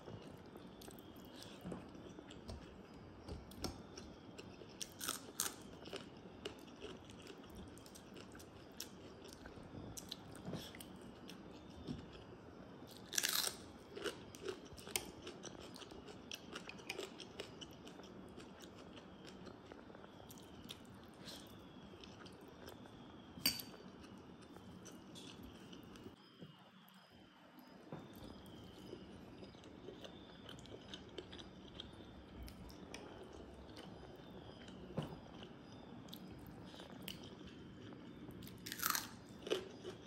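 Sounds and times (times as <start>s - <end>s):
person chewing and crunching: 0.1s - 12.3s, 12.9s - 26.2s, 28.2s - 40.0s.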